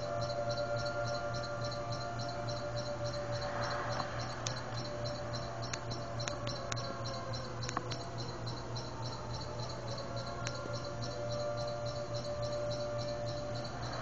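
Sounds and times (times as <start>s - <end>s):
faint steady tone: 0.0s - 14.0s
insects chirping: 0.0s - 14.0s
low hum: 0.0s - 14.0s.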